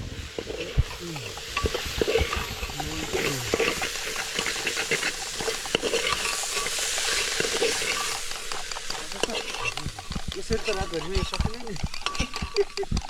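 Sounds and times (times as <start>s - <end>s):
food frying: 0.0s - 13.0s
utensil scraping in a pan: 0.0s - 13.0s.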